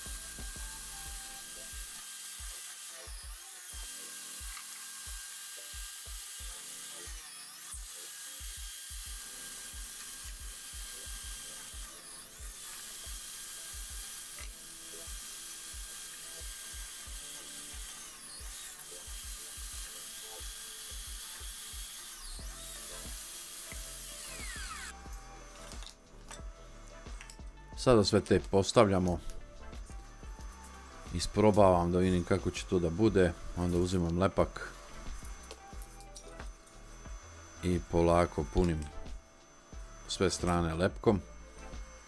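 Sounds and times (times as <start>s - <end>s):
background music with a beat: 0.0s - 3.4s, 8.4s - 42.0s
drill press whining: 0.0s - 29.3s, 30.2s - 42.0s.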